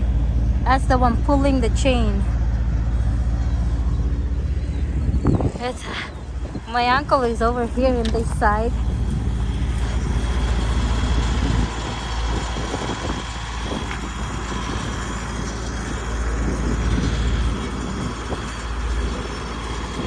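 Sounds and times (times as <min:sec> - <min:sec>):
tractor engine running: 0:00.0 - 0:20.0
wind rumble on microphone: 0:00.0 - 0:20.0.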